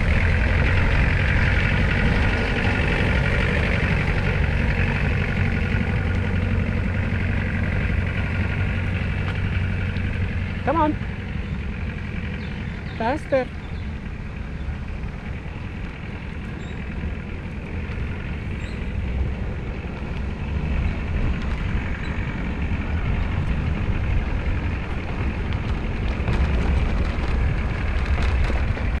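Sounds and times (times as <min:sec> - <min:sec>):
road rumble: 0:00.0 - 0:29.0
wind buffeting: 0:00.0 - 0:29.0.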